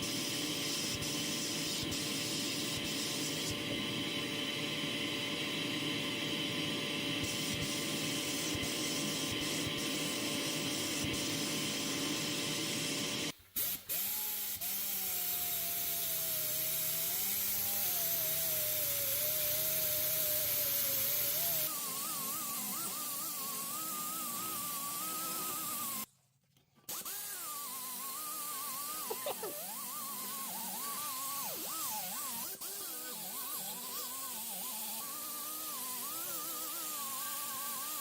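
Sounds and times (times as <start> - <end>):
power tool whining: 0.0 - 26.1, 26.9 - 38.0.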